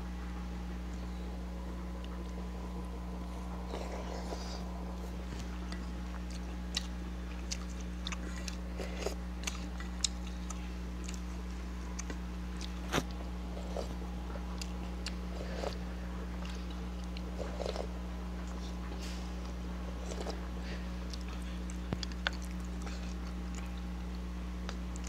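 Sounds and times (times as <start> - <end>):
steady low hum: 0.0 - 25.0
person chewing food: 0.8 - 25.0.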